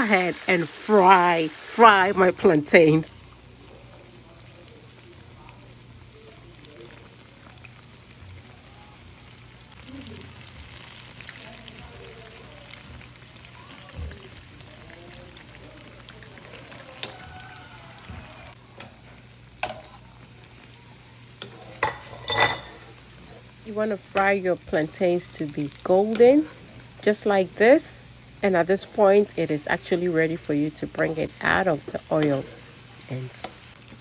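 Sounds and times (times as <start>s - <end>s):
plantain deep-frying in oil: 0.0s - 34.0s.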